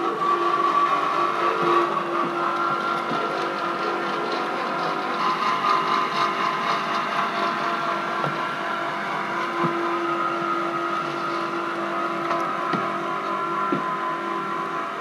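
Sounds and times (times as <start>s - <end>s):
electric motorcycle whine: 0.0s - 15.0s.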